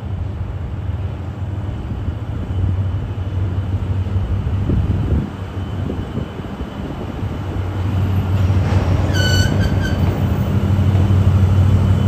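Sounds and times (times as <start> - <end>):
locomotive engines droning: 0.0 - 12.0.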